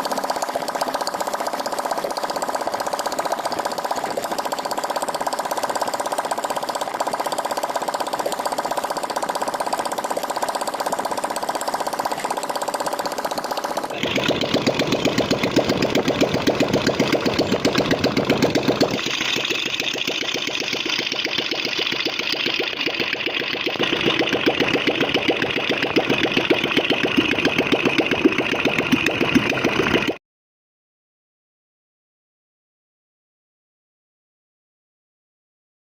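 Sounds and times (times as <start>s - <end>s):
single-cylinder motorcycle engine running: 0.0s - 30.2s.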